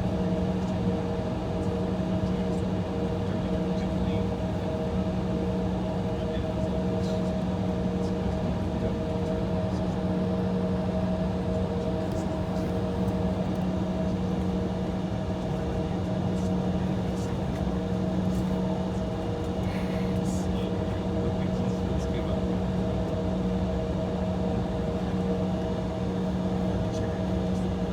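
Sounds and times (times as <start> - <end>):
airliner cabin hum: 0.1 - 27.9.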